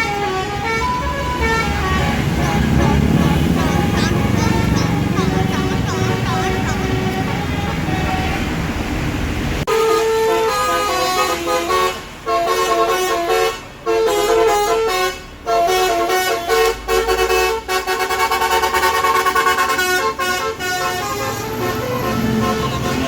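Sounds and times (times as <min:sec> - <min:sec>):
musical bus horn melody: 0:00.0 - 0:08.7, 0:09.7 - 0:23.0.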